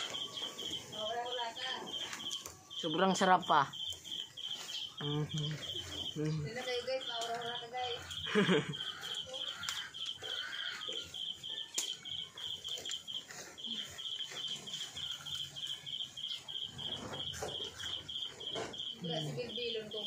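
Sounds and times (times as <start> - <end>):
insect chirping: 0.0 - 20.0
faint chewing: 1.8 - 2.8, 3.7 - 20.0.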